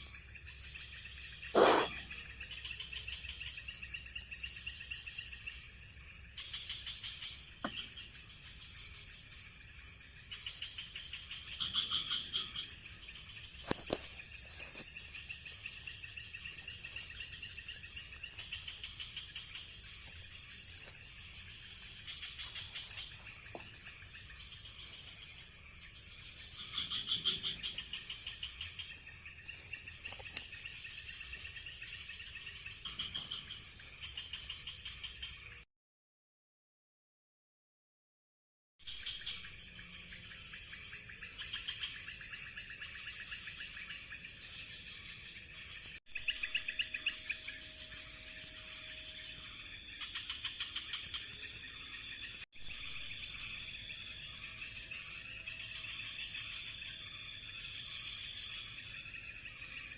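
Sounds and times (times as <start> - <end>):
crickets chirping: 0.0 - 35.6, 38.9 - 59.9
high-pitched insect drone: 0.0 - 35.6, 38.9 - 59.9.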